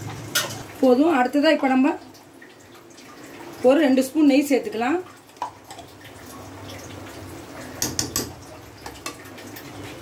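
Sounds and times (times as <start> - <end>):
rice pot bubbling and crackling: 0.0 - 10.0.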